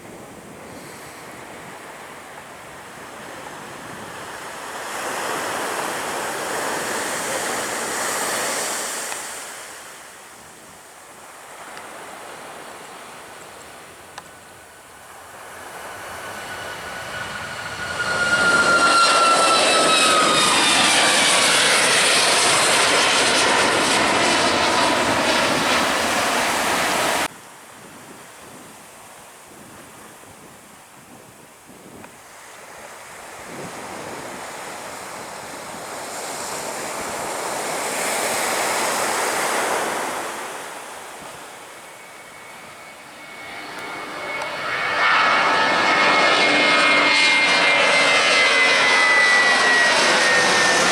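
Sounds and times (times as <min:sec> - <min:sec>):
jet engines whining overhead: 0:00.0 - 0:10.1, 0:11.3 - 0:27.3, 0:32.4 - 0:50.9.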